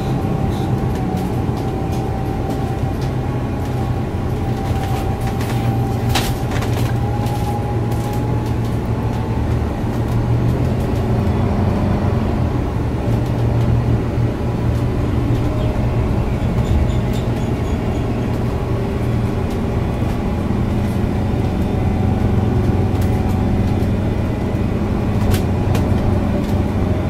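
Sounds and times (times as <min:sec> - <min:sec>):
bus engine hum: 0:00.0 - 0:27.0
road noise: 0:00.0 - 0:27.0.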